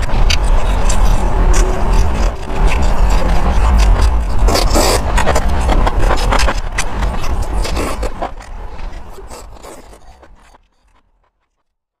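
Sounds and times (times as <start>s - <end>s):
wet chewing: 0.1s - 10.6s.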